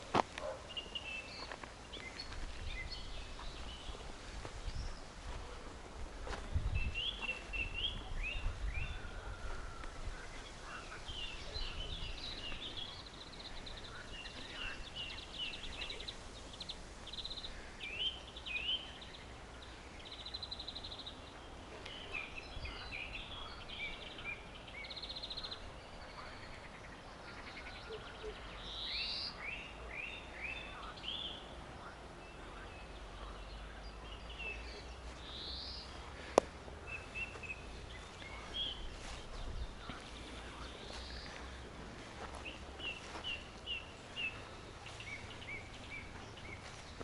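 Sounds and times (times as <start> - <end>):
songbirds chirping and trilling: 0.0 - 47.0.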